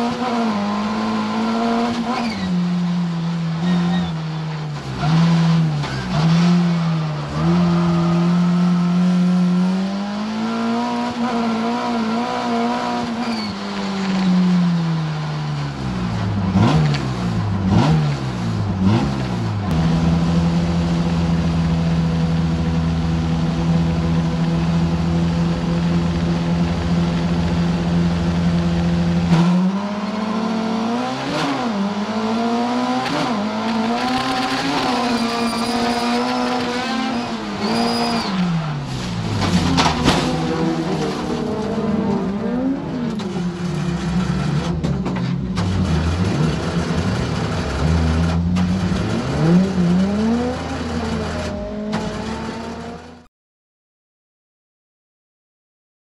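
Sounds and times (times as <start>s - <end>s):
race car engine from inside: 0.0s - 53.3s.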